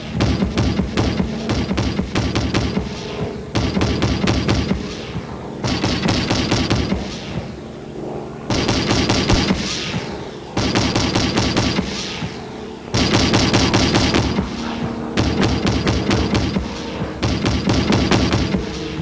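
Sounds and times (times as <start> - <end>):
anti-aircraft gun automatic fire: 0.0 - 7.7, 8.4 - 19.0.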